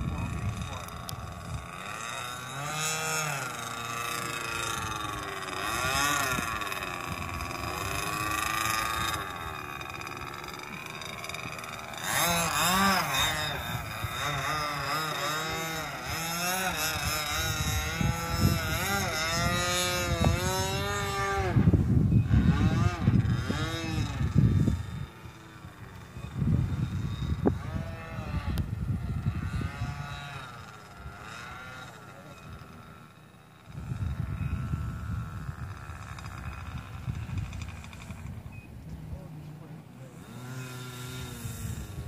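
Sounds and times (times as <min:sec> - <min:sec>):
model airplane engine running: 0:00.0 - 0:42.0.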